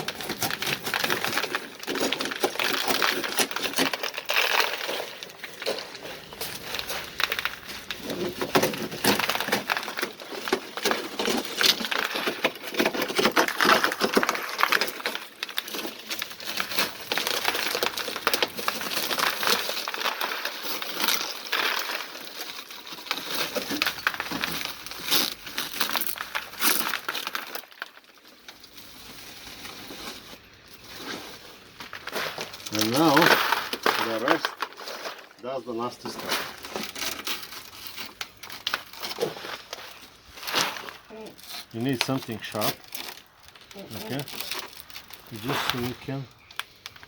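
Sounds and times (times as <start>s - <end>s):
crunching and clinking glass fragments: 0.0s - 47.0s.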